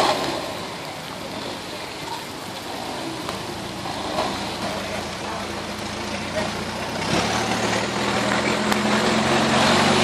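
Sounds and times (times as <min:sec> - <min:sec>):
faint car engine: 0:00.0 - 0:10.0
hiss of spray and rain: 0:00.0 - 0:10.0
wheels spinning in mud: 0:00.0 - 0:10.0.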